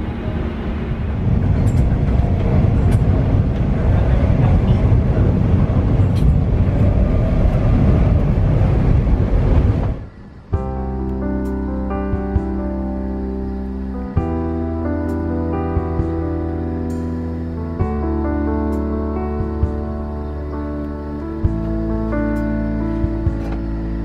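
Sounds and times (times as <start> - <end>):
passenger train rumble: 0.0 - 24.0.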